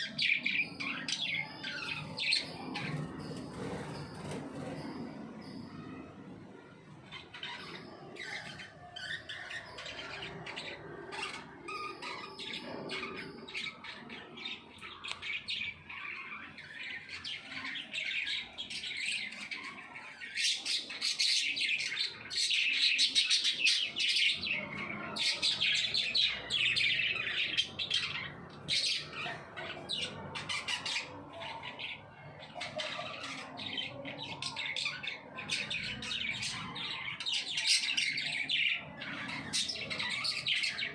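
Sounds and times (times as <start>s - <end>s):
parrots chattering: 7.1s - 40.9s.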